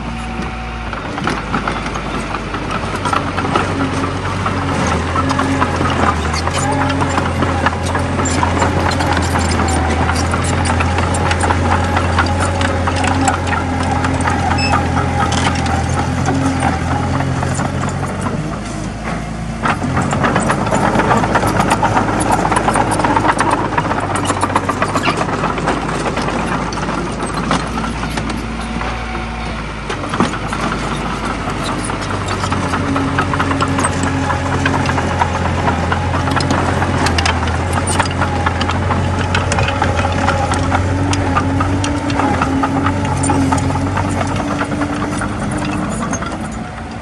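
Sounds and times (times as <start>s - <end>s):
bulldozer diesel engine droning: 0.0s - 47.0s
rattle of clanks and clicks: 0.0s - 47.0s.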